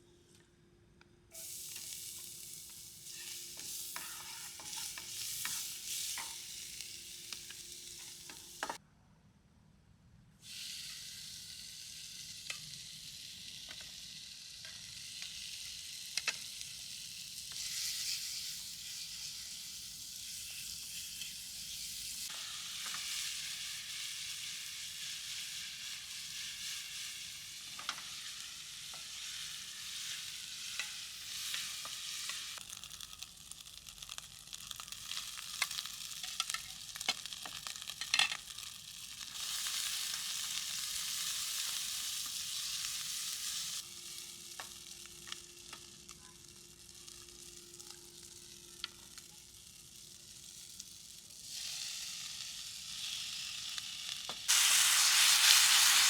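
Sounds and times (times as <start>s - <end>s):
food sizzling in a frying pan: 1.3s - 8.8s, 10.4s - 56.0s.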